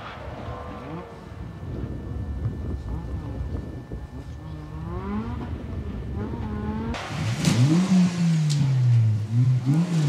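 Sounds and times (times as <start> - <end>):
car engine revving: 0.0 - 1.9, 2.6 - 10.0.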